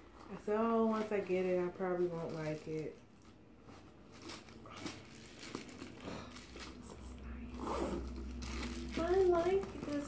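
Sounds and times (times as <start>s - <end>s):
handbag rustling and crinkling: 0.0s - 10.0s.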